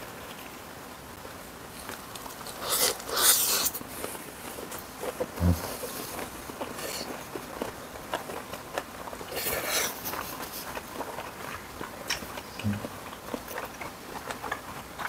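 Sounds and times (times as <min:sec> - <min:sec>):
chewing with wet clicks: 0:01.2 - 0:15.0.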